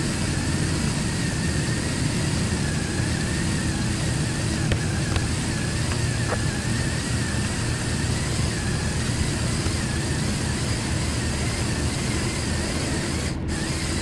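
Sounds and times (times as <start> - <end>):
faint wavering motor whine: 0.0 - 14.0
toy car driving through grass: 0.0 - 14.0.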